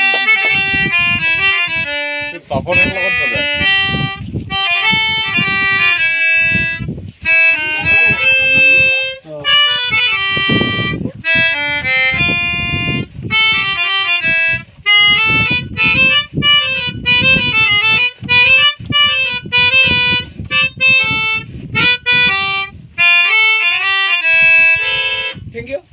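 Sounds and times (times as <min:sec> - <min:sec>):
harmonica melody: 0:00.0 - 0:25.5.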